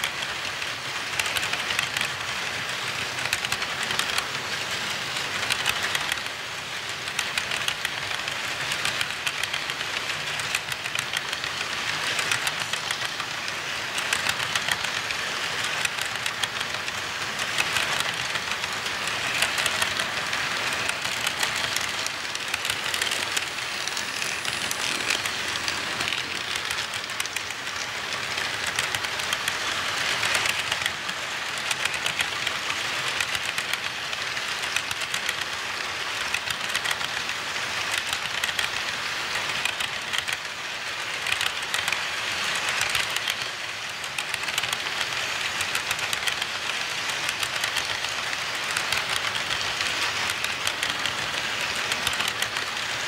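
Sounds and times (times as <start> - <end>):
model train wheels rolling and clicking: 0.0 - 53.0.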